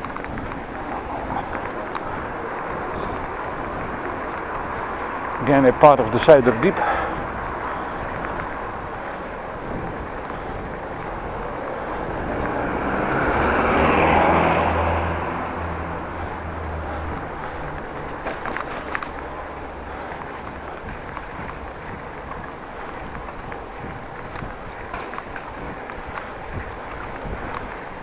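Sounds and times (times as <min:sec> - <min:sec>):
bicycle ride rushing noise: 0:00.0 - 0:28.0
motor vehicle passing: 0:00.0 - 0:28.0.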